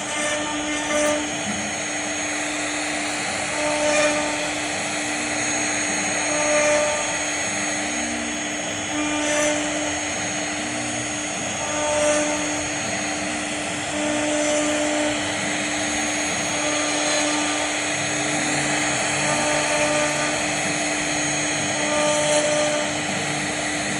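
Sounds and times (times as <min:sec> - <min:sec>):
router cutting wood: 0:00.0 - 0:23.9.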